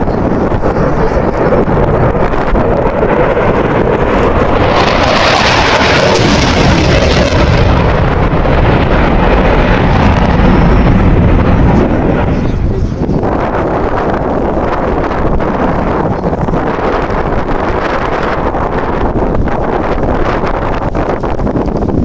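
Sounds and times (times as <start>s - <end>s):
jet engines in afterburner: 0.0s - 22.0s.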